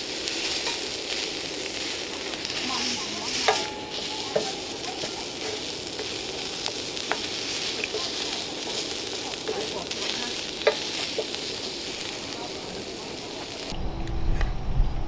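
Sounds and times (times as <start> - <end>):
meat sizzling over campfire: 0.0 - 13.8.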